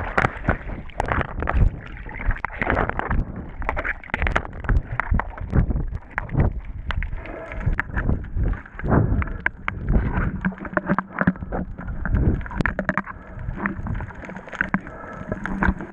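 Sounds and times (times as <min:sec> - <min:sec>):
muffled water sloshing and splashing: 0:00.0 - 0:15.9.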